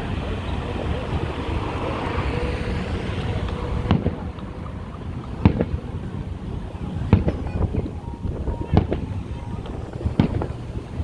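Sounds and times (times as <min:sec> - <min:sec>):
distant fireworks bangs: 0:00.0 - 0:11.0
wind noise on microphone: 0:00.0 - 0:11.0.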